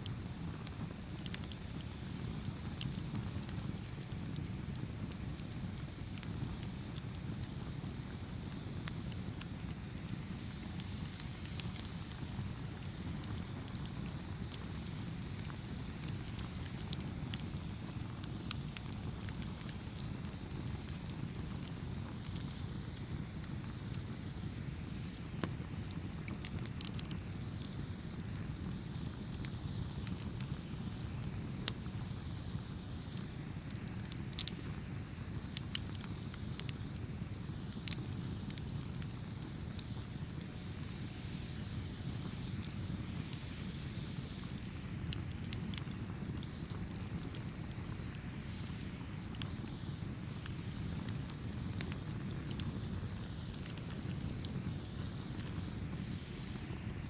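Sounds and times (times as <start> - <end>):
burning wood crackling and popping: 0.0 - 57.0
low rush of flame: 0.0 - 57.0.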